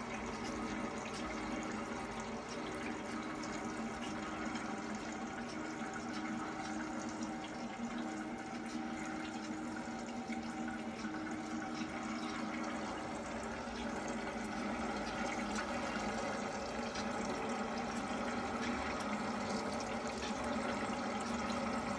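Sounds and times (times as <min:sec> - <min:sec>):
small pump humming: 0:00.0 - 0:21.9
water drops pattering into basin: 0:00.0 - 0:21.9.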